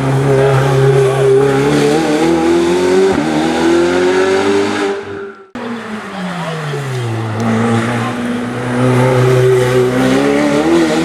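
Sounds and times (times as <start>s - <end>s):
race car engine accelerating: 0.0s - 11.0s
race car engine passing: 0.0s - 11.0s.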